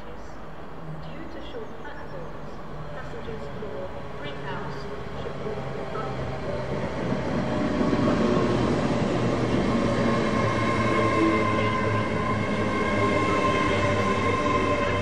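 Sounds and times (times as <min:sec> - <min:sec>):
train wheels rumbling on rail: 0:02.9 - 0:15.0.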